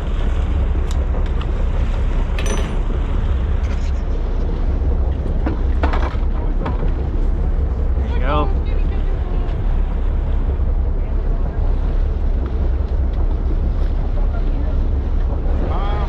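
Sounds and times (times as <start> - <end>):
boat engine low rumble: 0.0 - 16.0
wind buffeting microphone: 0.0 - 16.0.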